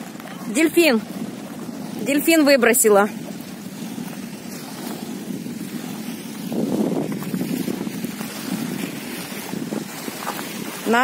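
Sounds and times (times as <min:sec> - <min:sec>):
small waves on shingle beach: 0:00.0 - 0:11.0
wind rushing over microphone: 0:00.0 - 0:11.0.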